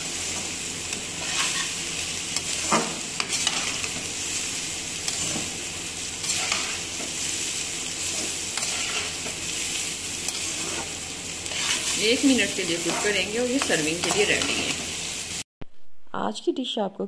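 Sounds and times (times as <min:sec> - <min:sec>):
rice sizzling in a hot pan: 0:00.0 - 0:15.5
spatula scraping a pan: 0:00.2 - 0:15.0.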